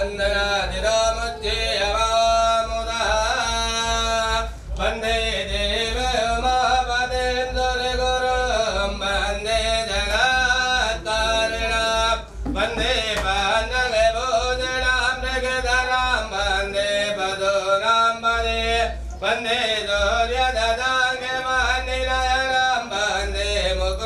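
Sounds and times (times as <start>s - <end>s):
person chanting hymns: 0.0s - 24.0s
steady low hum: 0.0s - 24.0s.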